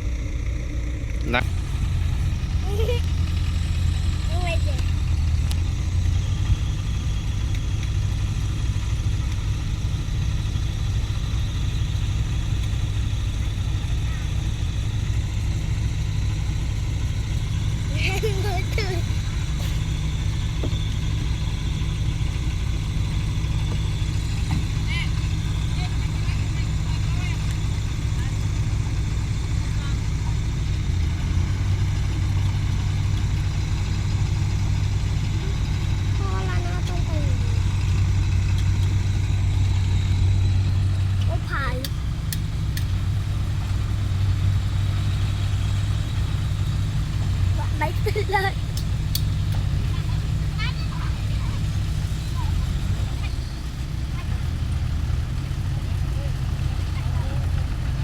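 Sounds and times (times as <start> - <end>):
excavator diesel engine rumbling: 0.0 - 58.0.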